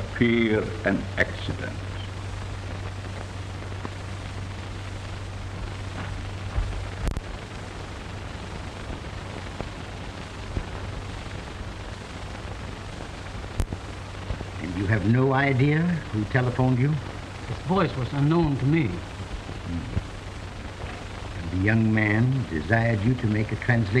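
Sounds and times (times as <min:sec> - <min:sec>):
film soundtrack hiss: 0:00.0 - 0:24.0
low hum: 0:00.0 - 0:24.0.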